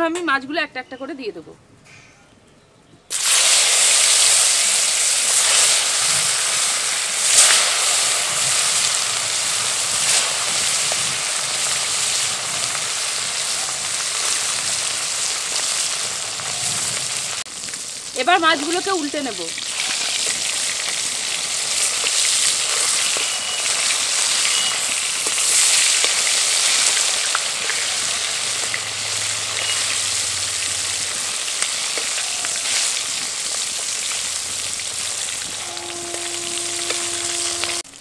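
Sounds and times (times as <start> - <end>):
fish sizzling in oil: 3.1 - 38.0.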